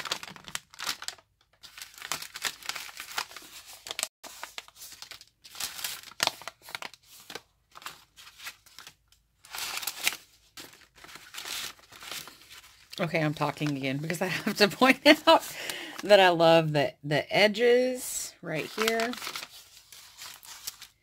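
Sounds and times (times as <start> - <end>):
paper envelopes crinkling: 0.0 - 16.1, 18.5 - 21.0.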